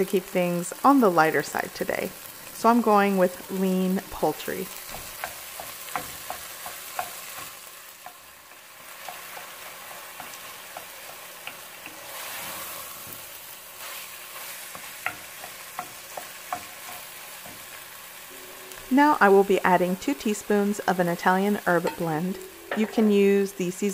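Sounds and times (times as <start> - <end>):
meat sizzling in a pot: 0.0 - 23.9.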